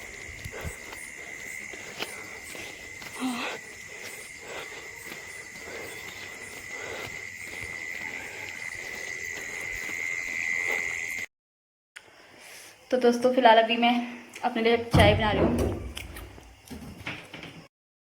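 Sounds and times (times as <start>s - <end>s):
night insects trilling: 0.0s - 11.3s, 12.0s - 17.7s.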